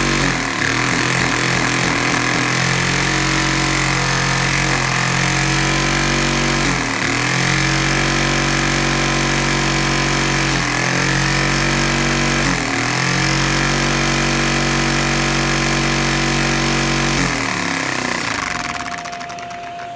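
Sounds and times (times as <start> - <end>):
vacuum cleaner motor: 0.0 - 19.9.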